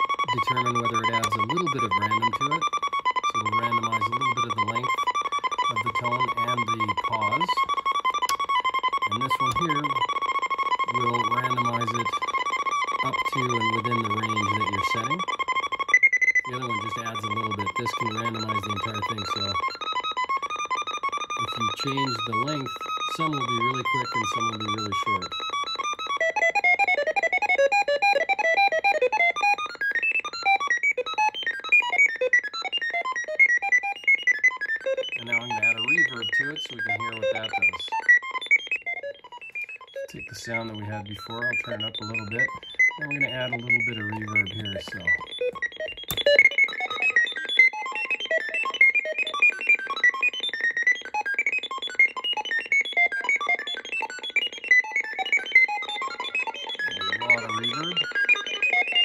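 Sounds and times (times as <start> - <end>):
random-pitch electronic beeps: 0.0 - 59.0.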